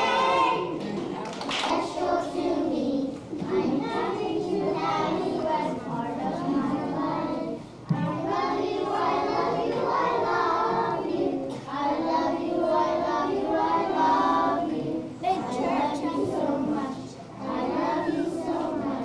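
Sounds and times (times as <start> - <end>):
children singing: 0.0 - 0.9, 1.6 - 19.0.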